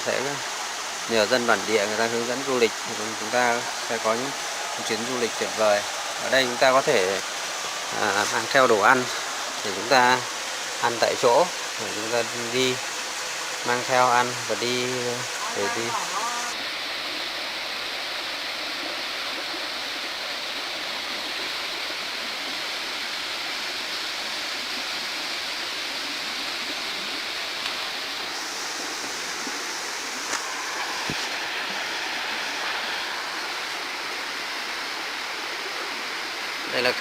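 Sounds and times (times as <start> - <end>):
stream cascading over rocks: 0.0 - 37.0.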